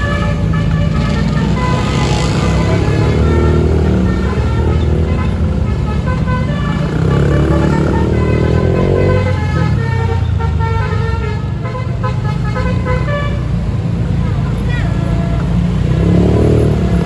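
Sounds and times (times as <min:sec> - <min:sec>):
bus horn playing a tune: 0:00.0 - 0:16.6
bus engine rumble: 0:00.0 - 0:17.0.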